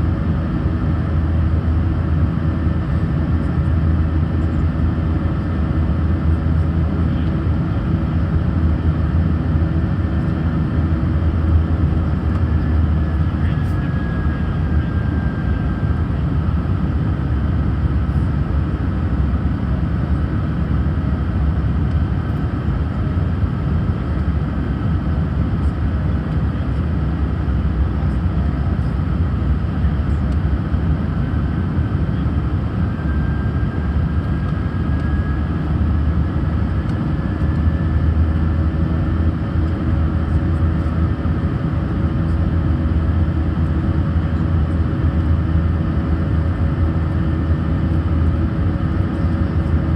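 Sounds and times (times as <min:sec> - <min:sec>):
jet engine rumble in cabin: 0:00.0 - 0:49.9.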